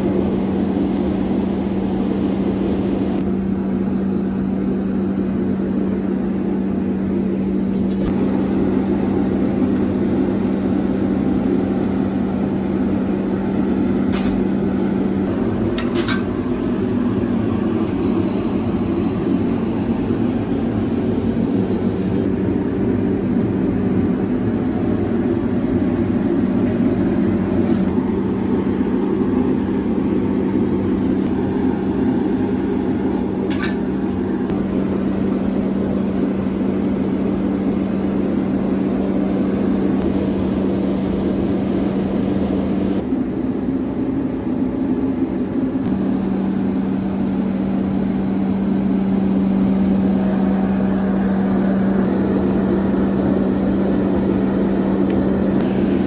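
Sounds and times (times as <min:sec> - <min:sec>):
machine humming: 0:00.0 - 0:56.0.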